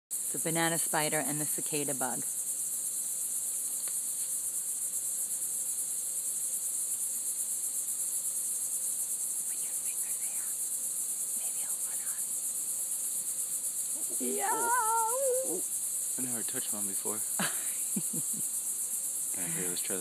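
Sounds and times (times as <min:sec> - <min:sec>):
high-pitched insect chorus: 0:00.1 - 0:20.0.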